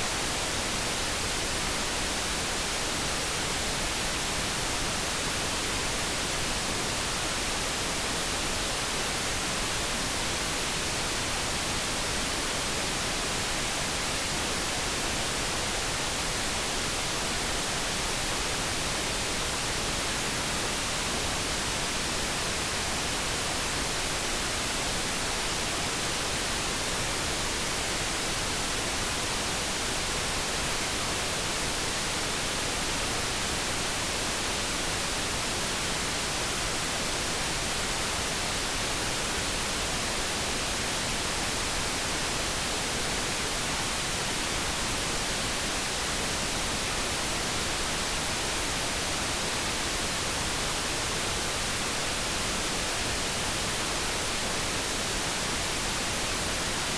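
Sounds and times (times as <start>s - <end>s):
steady brown noise hiss: 0.0s - 56.9s.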